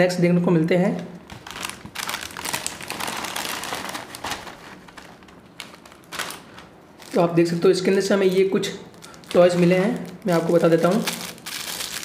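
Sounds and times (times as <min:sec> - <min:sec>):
snack packet crinkling: 0:01.3 - 0:07.3, 0:08.2 - 0:12.0.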